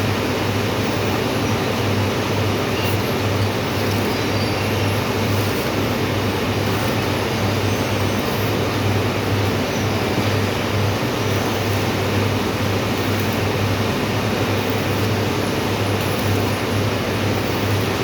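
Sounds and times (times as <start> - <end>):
arc welding hiss: 0.7 - 18.0.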